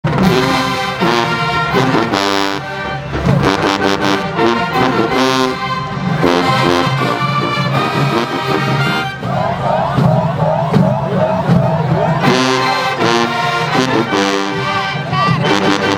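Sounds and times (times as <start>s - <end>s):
brass section playing punchy phrases: 0.0s - 15.9s.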